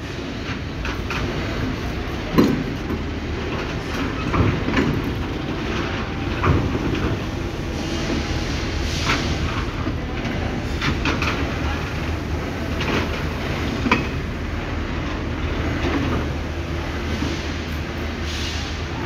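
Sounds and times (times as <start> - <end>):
low rumble of moving carriage: 0.0 - 19.0.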